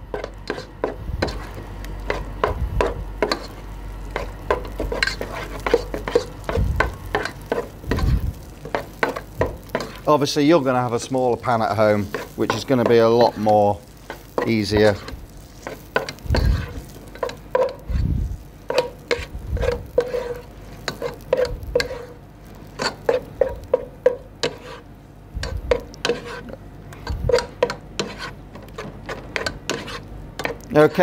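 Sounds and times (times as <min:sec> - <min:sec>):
spoon scraping and knocking pan: 0:00.1 - 0:10.1, 0:11.7 - 0:18.0, 0:18.7 - 0:31.0.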